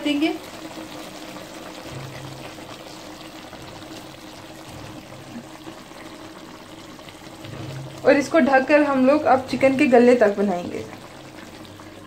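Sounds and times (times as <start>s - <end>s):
chicken simmering in oil: 0.0s - 12.0s
steady watery bubbling: 0.5s - 12.0s.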